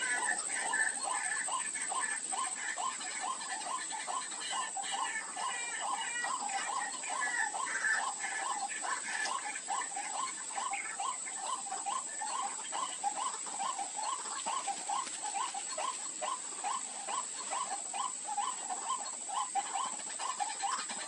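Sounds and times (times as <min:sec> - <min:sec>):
constant high-pitched tone: 0:00.0 - 0:21.0.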